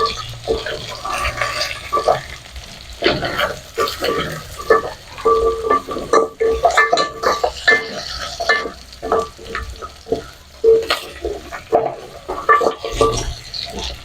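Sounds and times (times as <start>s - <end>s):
food sizzling: 0.0s - 14.0s
spoon scraping a pot: 0.0s - 14.0s.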